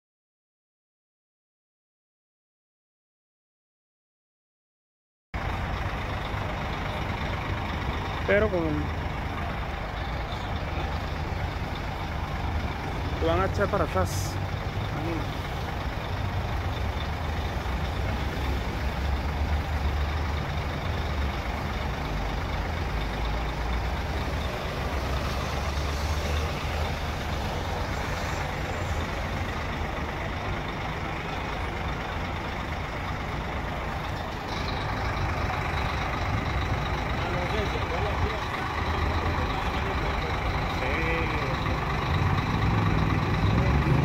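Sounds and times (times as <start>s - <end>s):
diesel bus engine rumbling: 5.4s - 44.0s.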